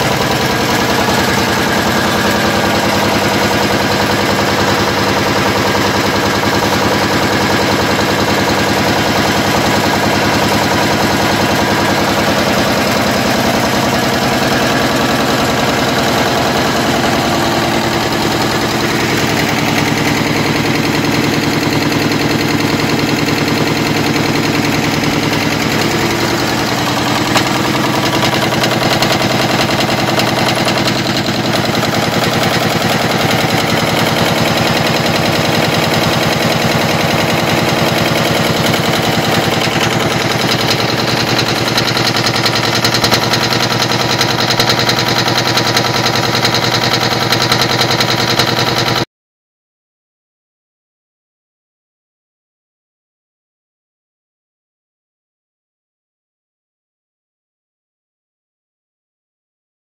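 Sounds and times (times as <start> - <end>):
power press clattering: 0.0 - 49.0.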